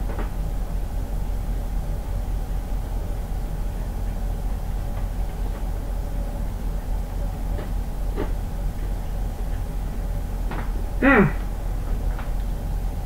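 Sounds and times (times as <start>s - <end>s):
low background rumble and hum: 0.0s - 13.0s.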